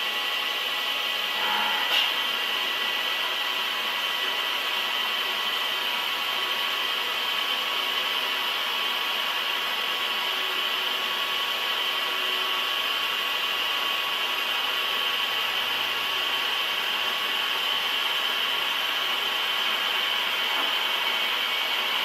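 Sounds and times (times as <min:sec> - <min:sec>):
machine hiss with high whine: 0:00.0 - 0:22.0.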